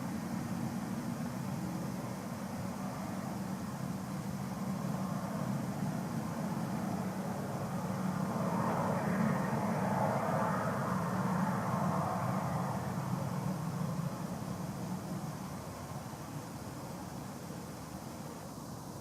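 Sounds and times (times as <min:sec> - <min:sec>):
jet aircraft engines running: 0:00.0 - 0:19.0.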